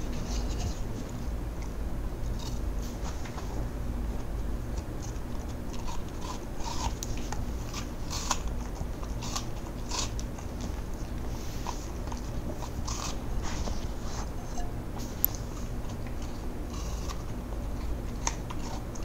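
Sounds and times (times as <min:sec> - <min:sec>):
dog crunching apple: 0:00.0 - 0:19.0.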